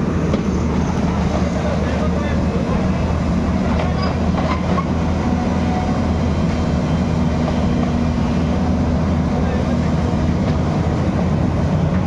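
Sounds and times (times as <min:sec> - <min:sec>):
excavator diesel engine drone: 0:00.0 - 0:12.0.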